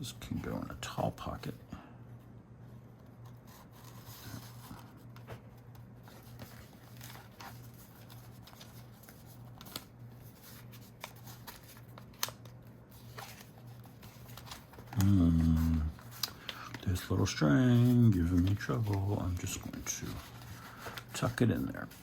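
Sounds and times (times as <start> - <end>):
steady low hum: 0.0 - 22.0
paper rustling and sliding: 3.0 - 22.0.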